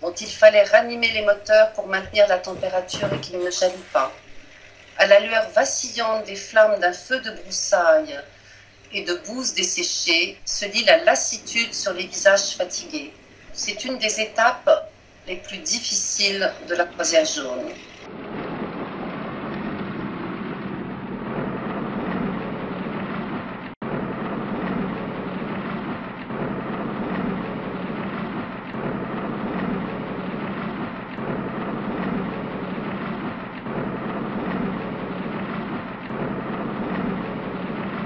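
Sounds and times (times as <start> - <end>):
steady rumbling noise: 0.0 - 38.0.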